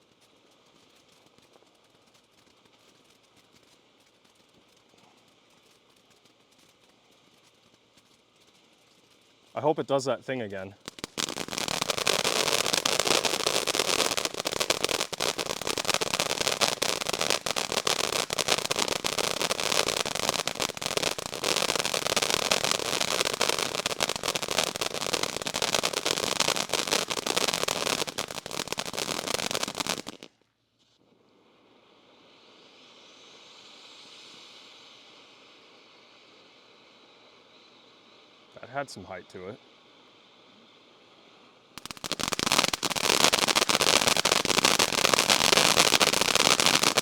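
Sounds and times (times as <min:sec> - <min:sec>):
firework fountain hissing and crackling: 0:00.0 - 0:30.5, 0:31.1 - 0:47.0
faint hiss: 0:00.0 - 0:47.0.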